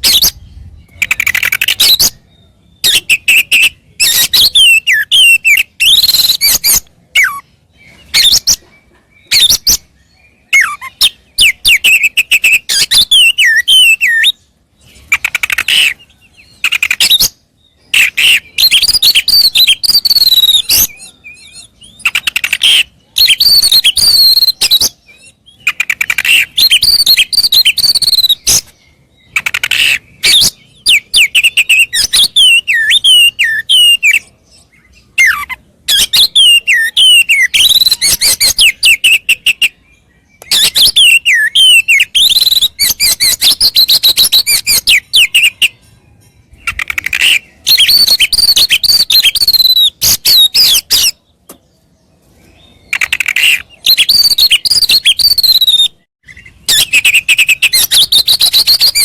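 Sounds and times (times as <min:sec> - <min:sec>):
songbird whistling and trilling: 0:00.0 - 0:59.0.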